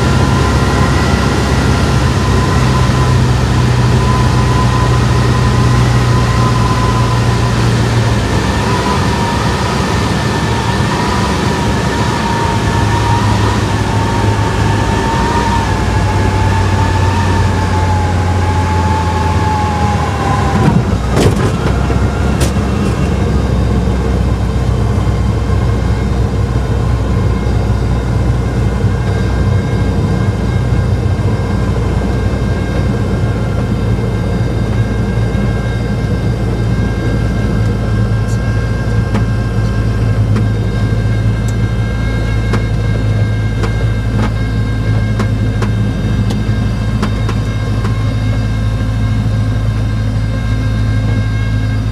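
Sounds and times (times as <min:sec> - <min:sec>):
aircraft engine and propeller droning: 0:00.0 - 0:51.9
whining tone: 0:00.0 - 0:51.9.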